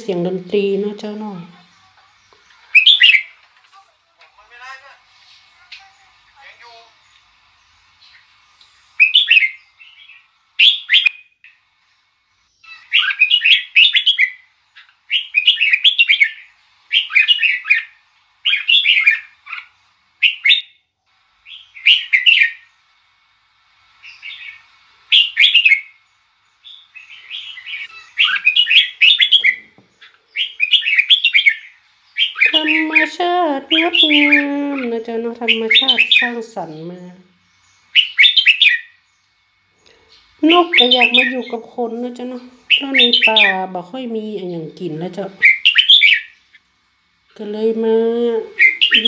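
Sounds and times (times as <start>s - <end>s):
songbird singing chirpy phrases: 0.0s - 5.0s, 5.6s - 23.2s, 23.8s - 49.0s.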